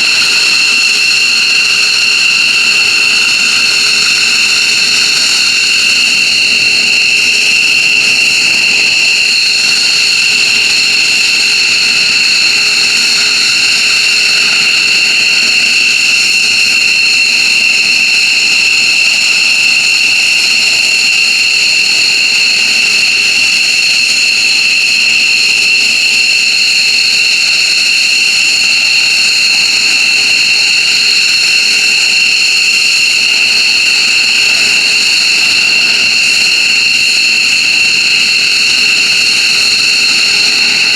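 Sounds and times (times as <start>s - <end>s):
jet engines whining and roaring: 0.0s - 40.9s.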